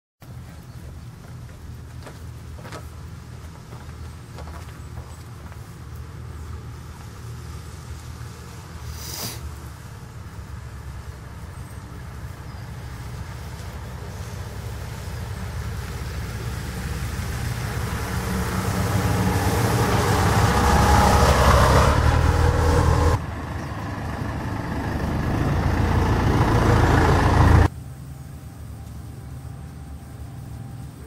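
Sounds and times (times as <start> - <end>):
bus engine passing: 0.2 - 31.0.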